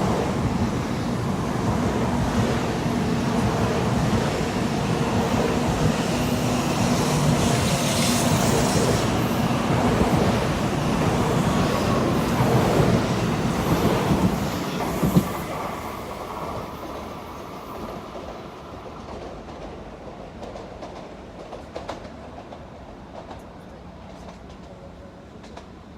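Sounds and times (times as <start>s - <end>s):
train running on tracks: 0.0s - 25.9s.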